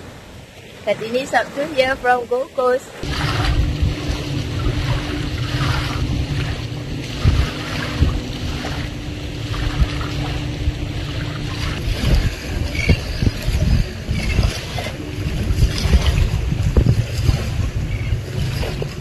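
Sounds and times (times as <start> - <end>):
engine running low rumble: 3.0 - 19.0.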